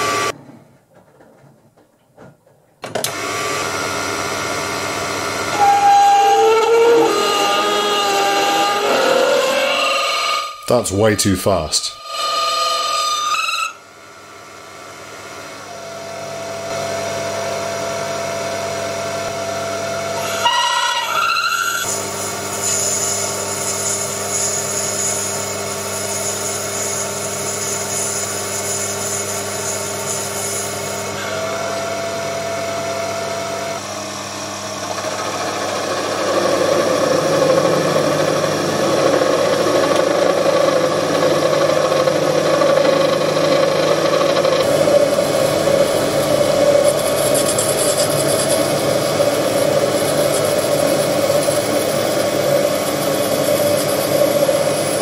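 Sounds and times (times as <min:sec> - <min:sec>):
lathe tool cutting metal: 0:03.1 - 0:10.7, 0:11.9 - 0:13.8, 0:20.0 - 0:55.0
metal lathe running: 0:03.2 - 0:10.7, 0:12.0 - 0:13.8, 0:19.9 - 0:55.0.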